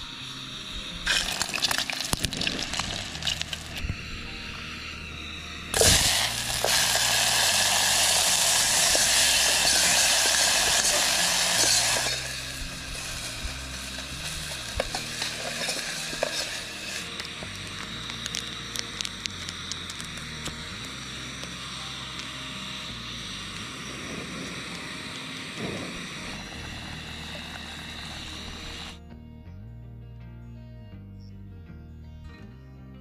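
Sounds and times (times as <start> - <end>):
onions sizzling in oil: 1.0 - 29.0.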